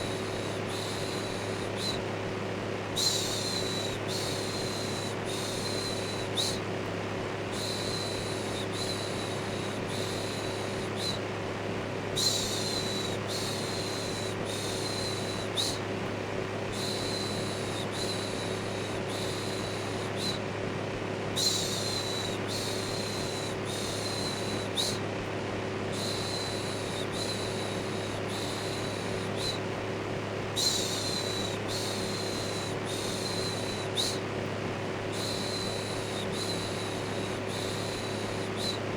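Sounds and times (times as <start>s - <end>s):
electric fan humming: 0.0s - 38.9s.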